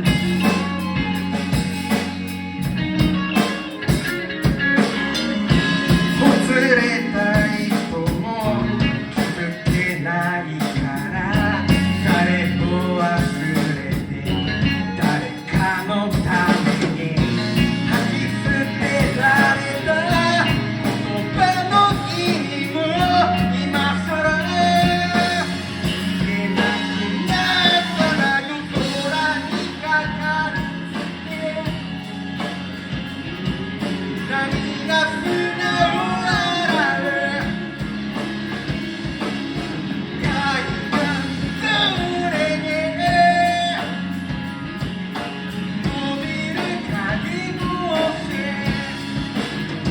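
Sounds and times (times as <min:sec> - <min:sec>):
guitar: 0:00.0 - 0:49.9
low bass notes: 0:00.0 - 0:49.9
person singing: 0:03.0 - 0:38.8, 0:40.1 - 0:49.9.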